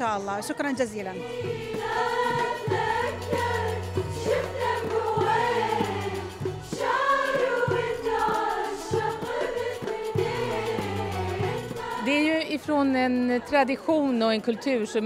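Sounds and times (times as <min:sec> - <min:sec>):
choir singing with accompaniment: 0:00.4 - 0:15.0.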